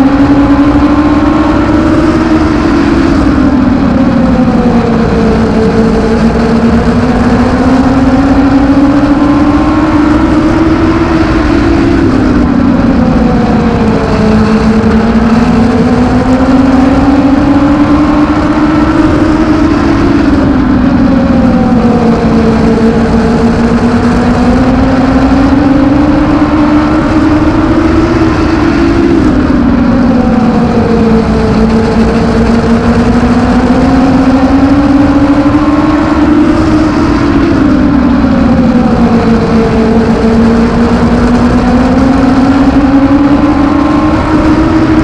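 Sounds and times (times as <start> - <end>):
racing car engine: 0.0 - 45.0.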